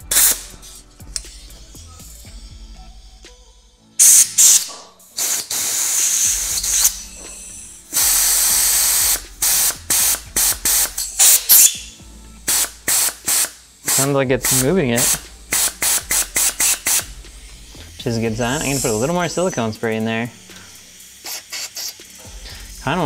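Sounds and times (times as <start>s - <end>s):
air blow gun hissing: 0.0s - 2.6s, 4.0s - 23.0s.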